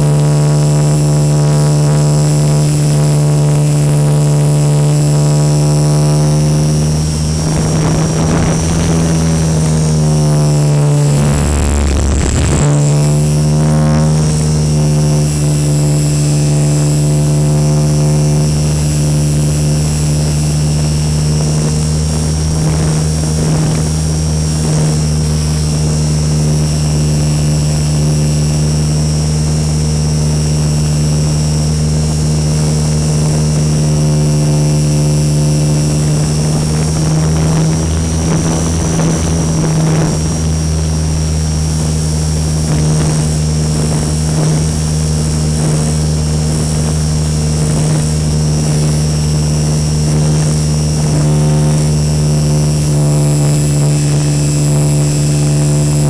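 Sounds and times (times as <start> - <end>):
model plane motor droning: 0.0 - 56.0.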